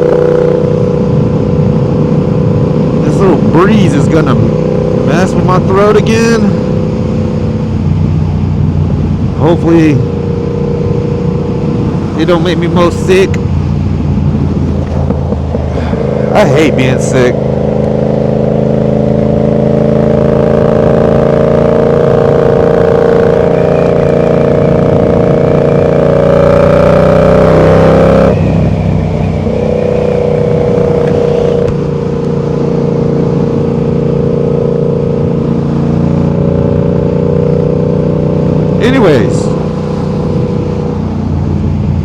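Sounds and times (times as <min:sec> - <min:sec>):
motorcycle engine accelerating: 0:00.0 - 0:42.0
wind noise: 0:00.0 - 0:42.0.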